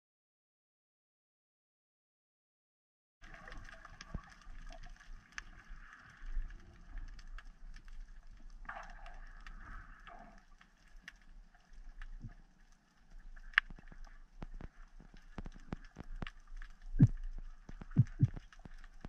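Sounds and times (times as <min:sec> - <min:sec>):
sharp underwater clicks and crackles: 0:03.2 - 0:19.0
underwater rumble of moving water: 0:03.2 - 0:19.0.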